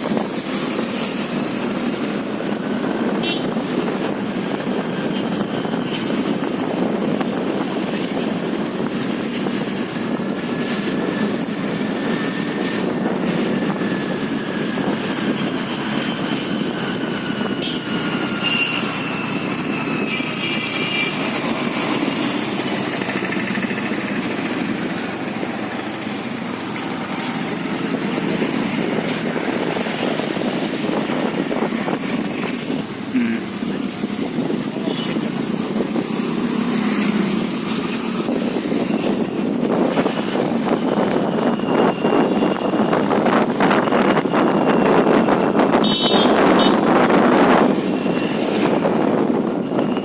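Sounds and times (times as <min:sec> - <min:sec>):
scooter engine: 0:00.0 - 0:50.0
wind noise: 0:00.0 - 0:50.0.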